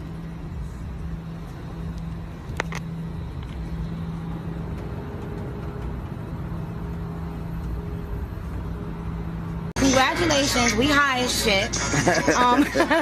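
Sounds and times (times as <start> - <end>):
jet cabin rumble: 0.0 - 11.6.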